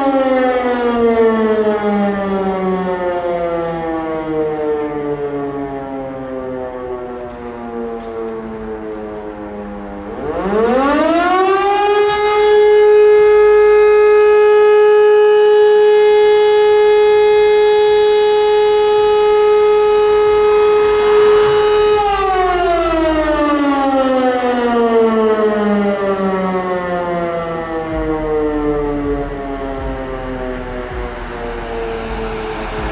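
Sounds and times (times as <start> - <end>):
electromechanical siren wailing: 0.0 - 32.9.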